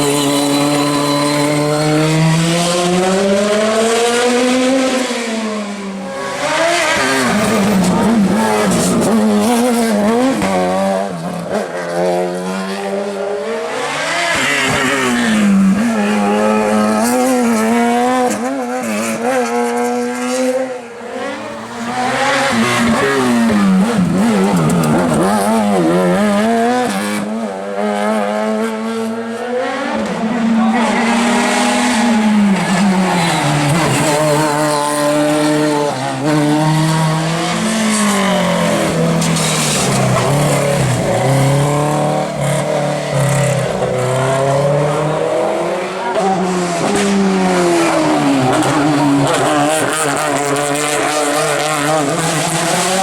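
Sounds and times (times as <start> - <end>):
racing car engines revving: 0.0 - 53.0.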